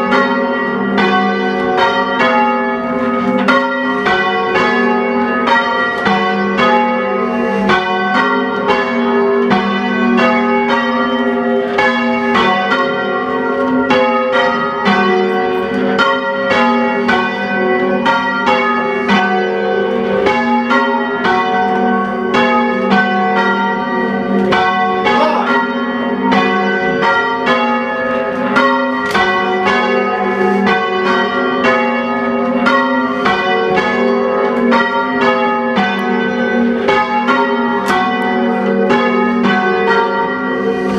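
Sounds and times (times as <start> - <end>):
church bells change ringing: 0.0 - 40.9.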